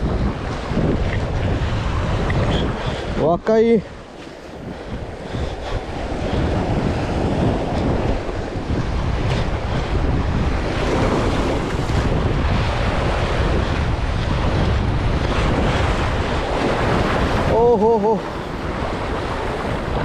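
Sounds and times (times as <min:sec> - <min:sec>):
surf breaking on rocks: 0:00.0 - 0:20.0
wind buffeting microphone: 0:00.0 - 0:20.0.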